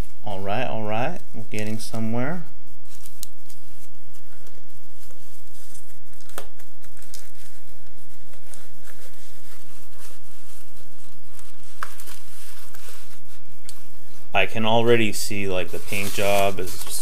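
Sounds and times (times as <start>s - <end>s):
packing foam and plastic crinkling: 0.0s - 17.0s
steady low hum: 0.0s - 17.0s.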